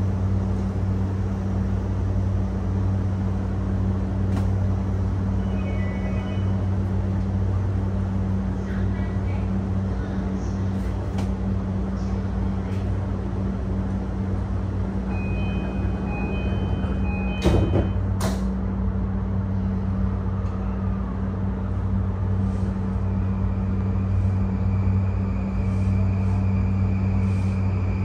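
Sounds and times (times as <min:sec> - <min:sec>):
train equipment humming: 0:00.0 - 0:28.0.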